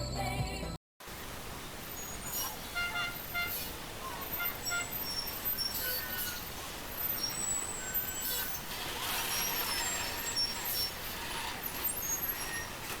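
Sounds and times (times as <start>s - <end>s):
air brakes hissing: 1.1s - 13.0s
heavy vehicle running: 1.1s - 13.0s.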